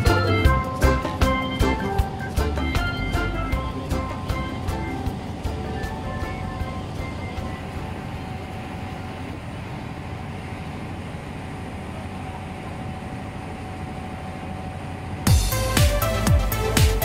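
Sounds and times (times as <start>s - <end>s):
boat engine running: 0.0s - 17.0s
water rushing along hull: 0.0s - 17.0s.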